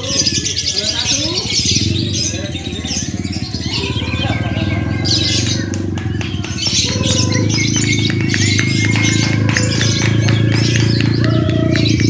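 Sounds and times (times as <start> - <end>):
lovebirds chattering: 0.0 - 12.0.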